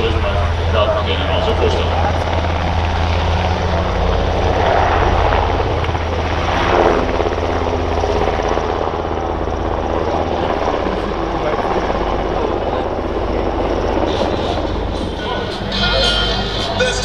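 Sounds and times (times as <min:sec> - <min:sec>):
helicopter rotors and turbines: 0:00.0 - 0:17.0.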